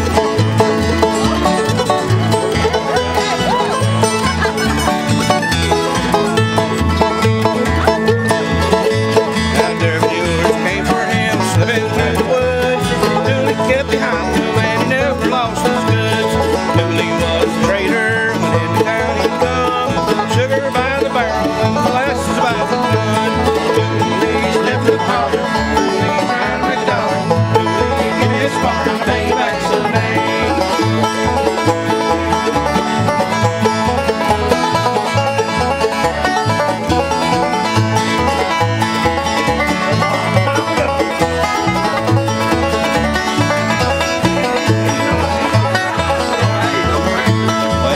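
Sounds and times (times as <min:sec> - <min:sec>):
acoustic guitar picking: 0:00.0 - 0:47.9
banjo: 0:00.0 - 0:47.9
mandolin: 0:00.0 - 0:47.9
upright bass plucking: 0:00.0 - 0:47.9.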